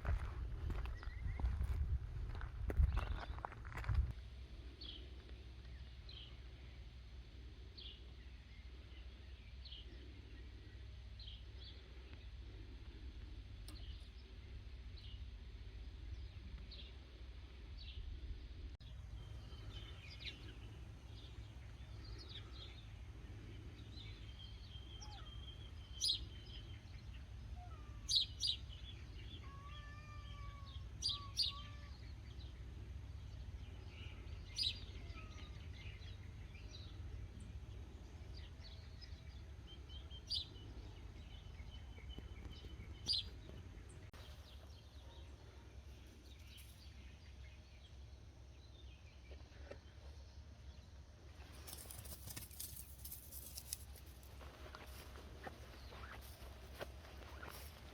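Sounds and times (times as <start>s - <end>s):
birds chirping: 0.0s - 4.2s, 4.8s - 57.9s
low outdoor rumble: 0.0s - 57.9s.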